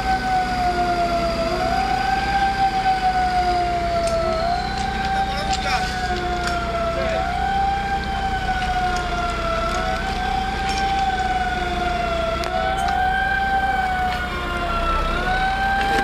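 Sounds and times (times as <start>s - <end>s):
low engine rumble: 0.0s - 16.0s
wavering siren: 0.0s - 16.0s.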